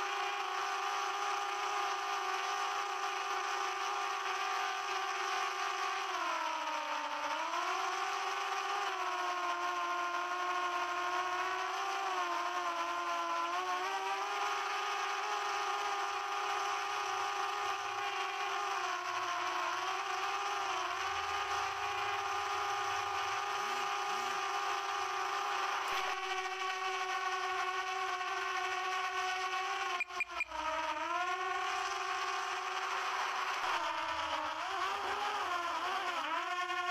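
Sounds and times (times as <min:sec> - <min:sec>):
drone propellers whining: 0:04.1 - 0:36.9.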